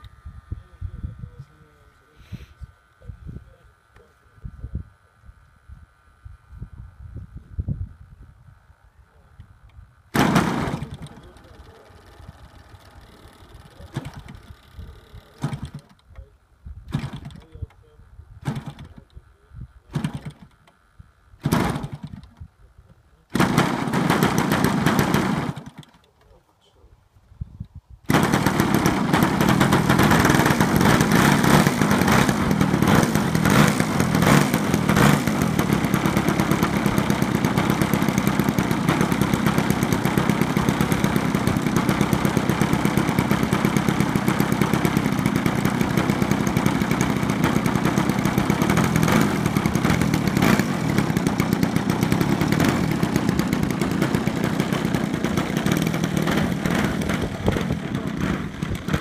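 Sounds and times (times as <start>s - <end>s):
model aeroplane engine running: 0.0s - 22.6s, 23.2s - 26.1s, 28.1s - 59.0s.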